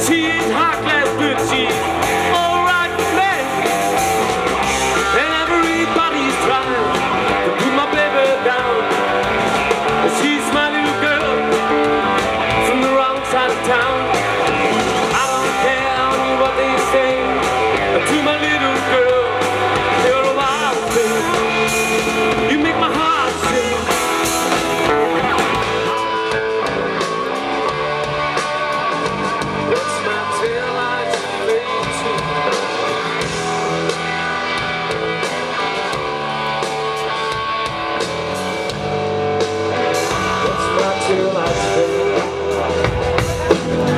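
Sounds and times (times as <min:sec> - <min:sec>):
drums: 0:00.0 - 0:43.9
electric bass: 0:00.0 - 0:43.9
electric guitar: 0:00.0 - 0:43.9.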